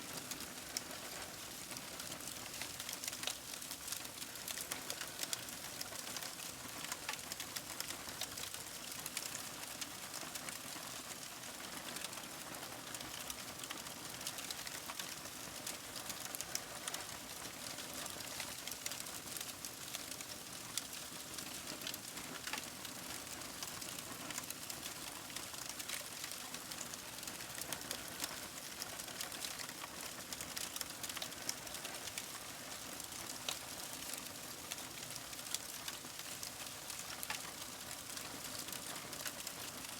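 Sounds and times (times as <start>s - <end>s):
paper burning and crackling: 0.2s - 9.4s, 13.6s - 39.9s.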